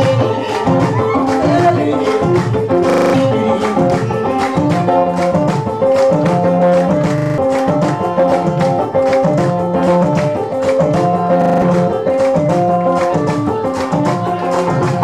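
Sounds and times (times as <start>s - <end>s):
amplified plucked lyre dance music: 0.0s - 15.0s
steady beat: 0.0s - 15.0s.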